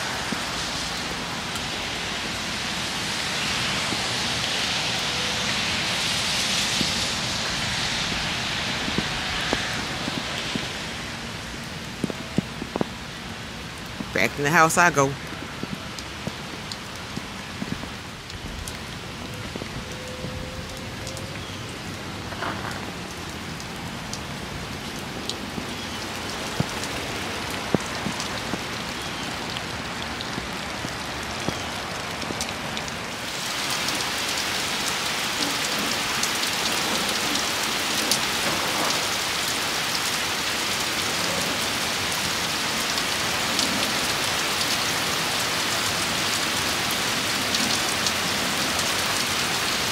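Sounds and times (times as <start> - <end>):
heavy rain: 0.0 - 49.9
raindrops hitting cars: 0.0 - 49.9.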